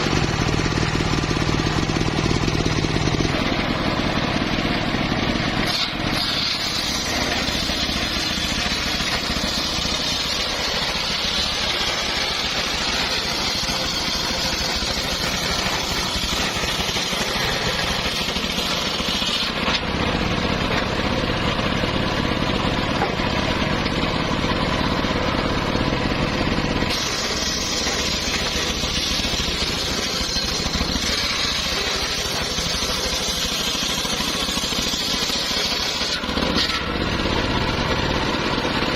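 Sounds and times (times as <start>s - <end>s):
circular saw running: 0.0s - 38.9s.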